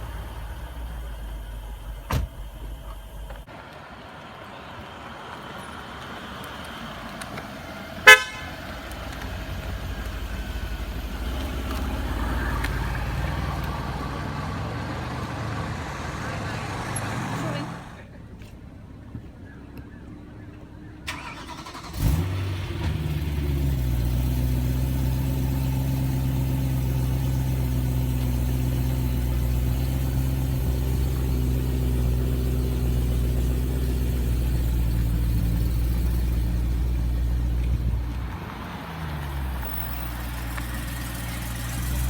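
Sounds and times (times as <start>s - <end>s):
car engine starting and idling: 0.0s - 3.6s, 4.6s - 18.1s, 21.0s - 42.0s.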